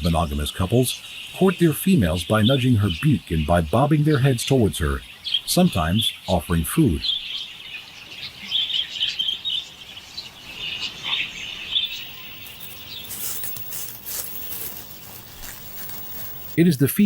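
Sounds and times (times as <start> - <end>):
budgerigars chirping and chattering: 0.0 - 13.8.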